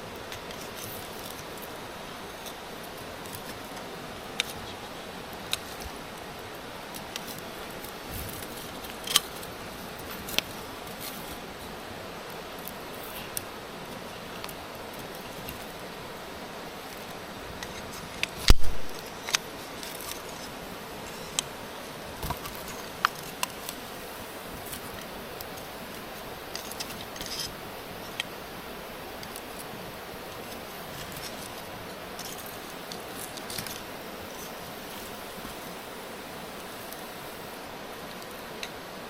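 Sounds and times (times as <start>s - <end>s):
steady low hiss: 0.0s - 39.0s.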